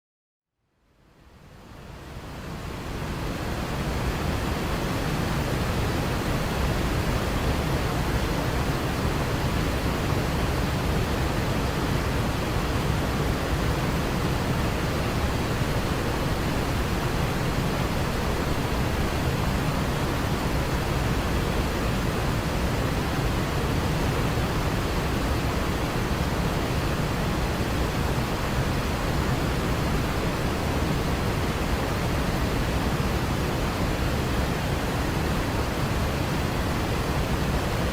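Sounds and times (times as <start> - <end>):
waterfall rushing: 2.7 - 37.9.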